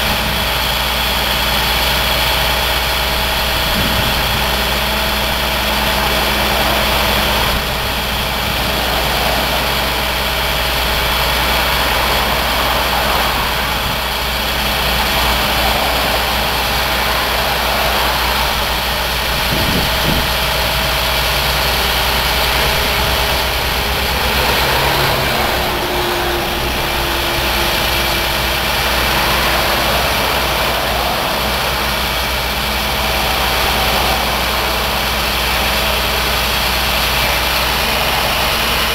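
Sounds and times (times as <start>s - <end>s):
hydraulic boom lifting: 0.0s - 38.9s
truck engine idling: 0.0s - 38.9s.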